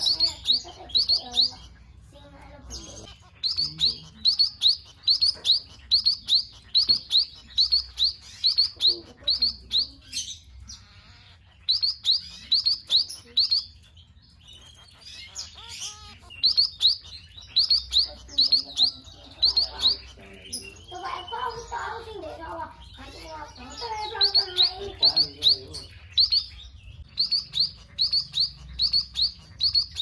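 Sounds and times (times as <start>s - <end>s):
high bird chirps: 0.0s - 30.0s.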